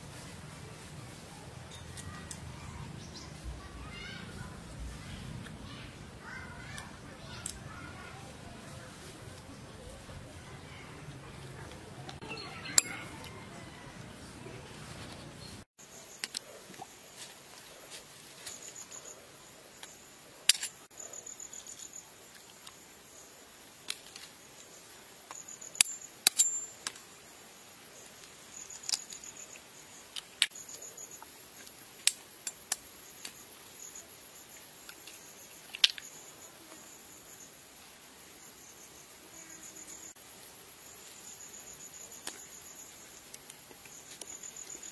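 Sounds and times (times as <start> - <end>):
crickets chirping: 0.0 - 14.0, 15.4 - 44.9.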